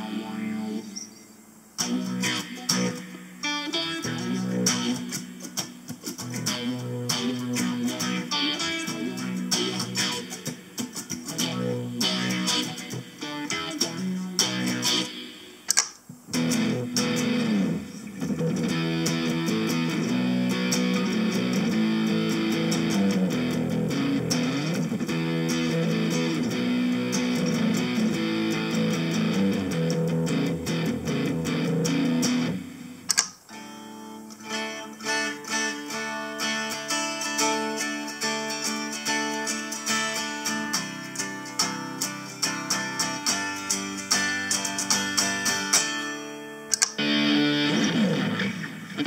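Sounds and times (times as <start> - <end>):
electric guitar notes: 0.0 - 49.0.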